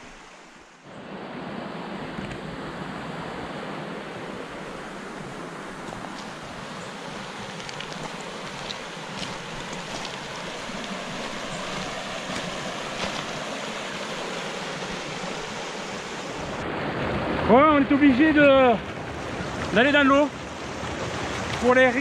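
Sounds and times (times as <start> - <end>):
river rushing over pebbles: 0.0 - 22.0.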